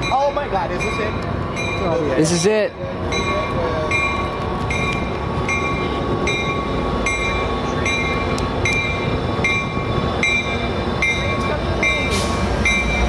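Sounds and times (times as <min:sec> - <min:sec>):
train bell ringing: 0:00.0 - 0:13.0
train rumble: 0:00.0 - 0:13.0.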